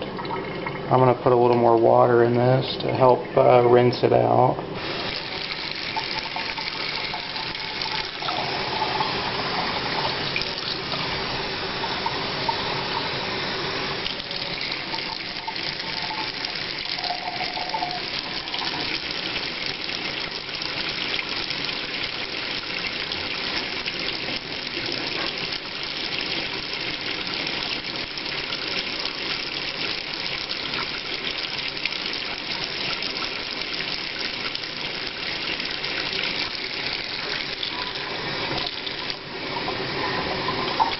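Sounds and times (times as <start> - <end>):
faucet running into sink: 4.8 - 40.9
water poured into sink: 4.8 - 40.9.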